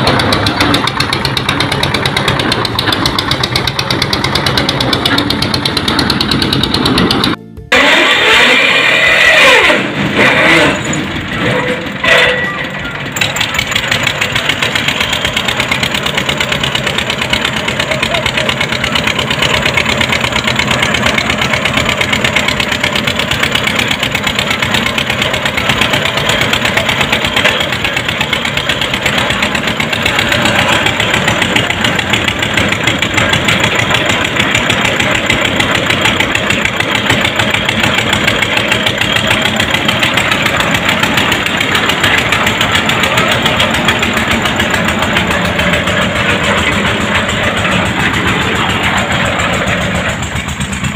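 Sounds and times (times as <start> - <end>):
drilling rig engine running: 0.0 - 50.9.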